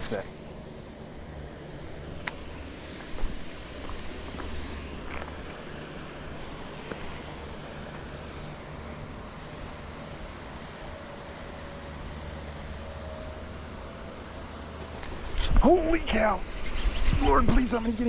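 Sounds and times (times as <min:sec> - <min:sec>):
insect chirping: 0:00.0 - 0:02.6, 0:03.4 - 0:15.3.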